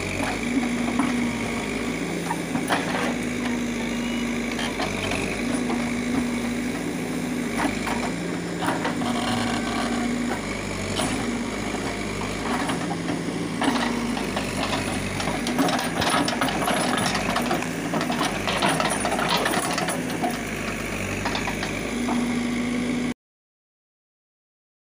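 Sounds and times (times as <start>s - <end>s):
backhoe diesel engine under load: 0.0s - 23.2s.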